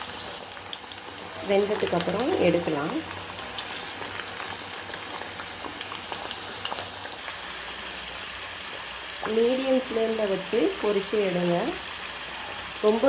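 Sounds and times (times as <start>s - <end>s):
food deep-frying in hot oil: 0.0s - 13.0s.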